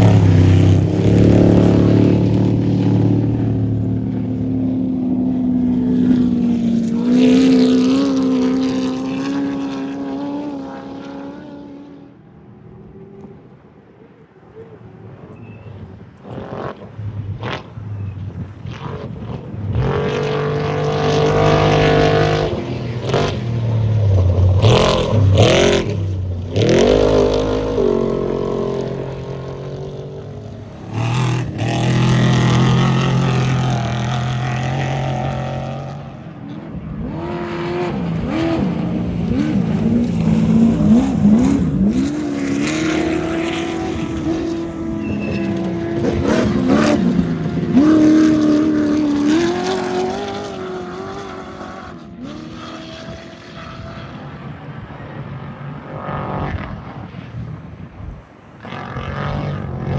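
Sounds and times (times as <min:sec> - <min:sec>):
race vehicles engines revving: 0:00.0 - 0:59.9.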